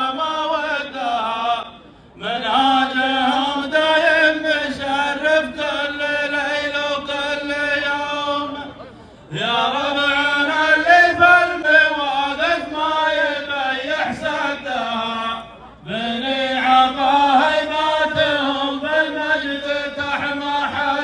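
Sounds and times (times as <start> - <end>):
men chanting: 0.0 - 8.6, 9.3 - 21.0.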